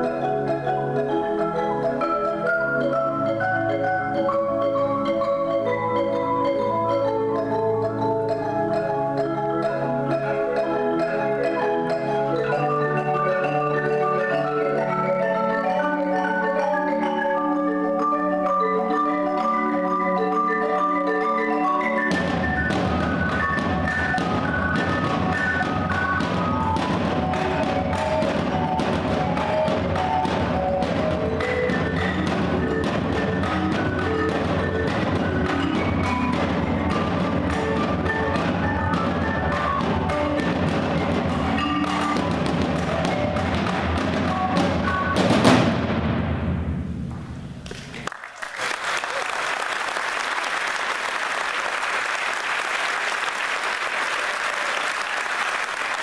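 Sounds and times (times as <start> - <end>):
marimbas playing interlocking patterns: 0.0 - 46.2
drums and percussion strikes: 0.0 - 48.0.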